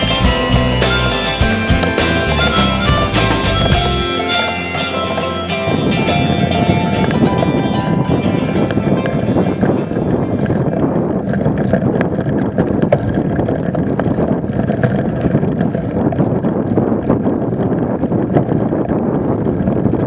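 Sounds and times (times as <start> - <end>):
bicycle rumbling over rough track: 0.0 - 20.0
wind buffeting microphone: 0.0 - 20.0.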